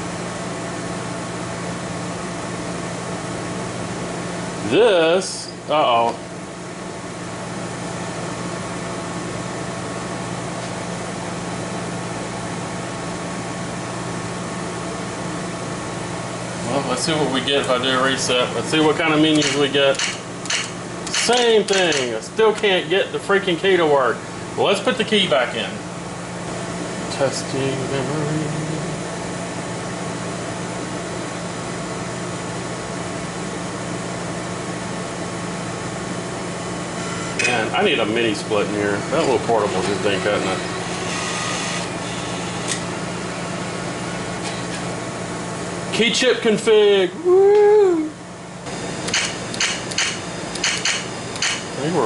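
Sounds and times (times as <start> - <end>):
air conditioner whoosh and hum: 0.0 - 52.0.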